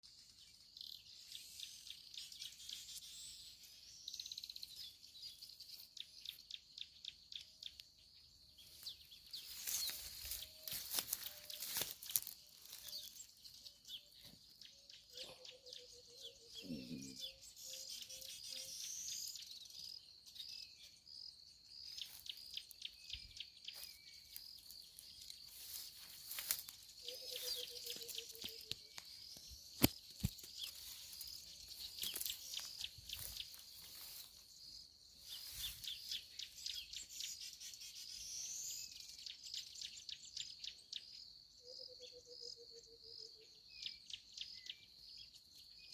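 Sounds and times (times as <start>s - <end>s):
insects chirping chorus: 0.1s - 45.9s.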